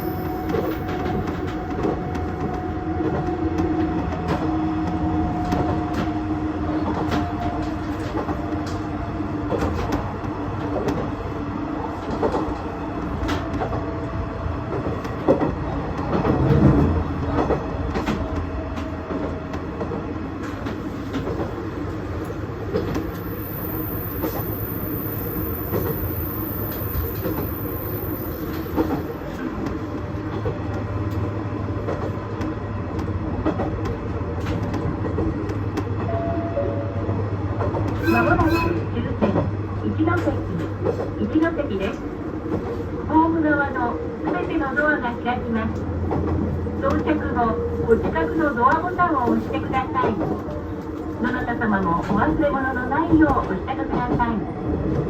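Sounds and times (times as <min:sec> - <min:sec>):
diesel railcar rumble and whine: 0:00.0 - 0:55.0.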